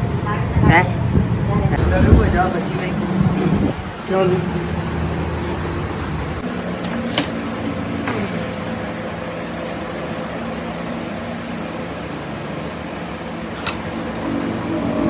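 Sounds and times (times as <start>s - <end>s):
workshop mechanical hum: 0.0s - 15.0s.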